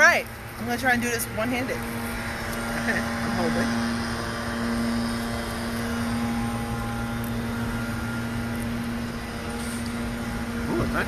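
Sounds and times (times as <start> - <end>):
refrigeration equipment hum: 0.0 - 11.0.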